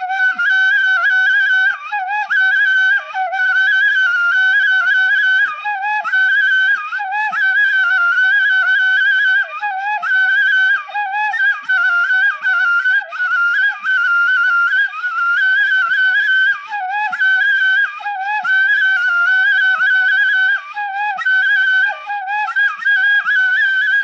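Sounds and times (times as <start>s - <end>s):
flute-like traditional melody: 0.0s - 24.0s.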